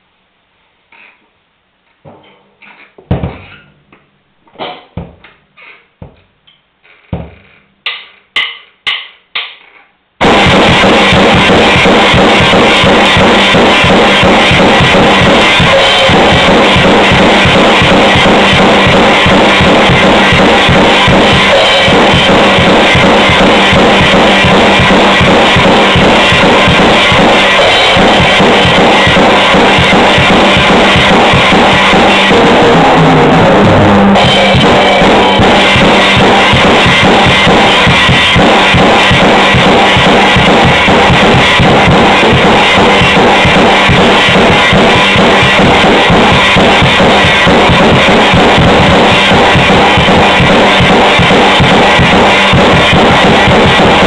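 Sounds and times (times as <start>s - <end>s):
bass drum strokes: 10.2s - 54.0s
cymbals: 10.2s - 54.0s
snare drum: 10.2s - 54.0s.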